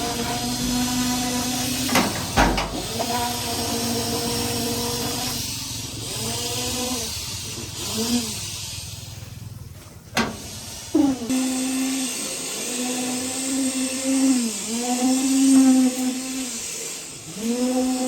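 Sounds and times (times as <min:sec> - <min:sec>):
small motor whining: 0:00.0 - 0:18.0.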